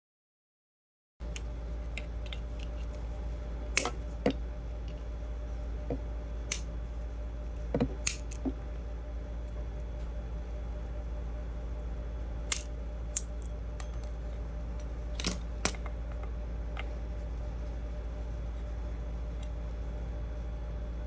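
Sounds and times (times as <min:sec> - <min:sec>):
steady low hum: 0:01.2 - 0:21.0.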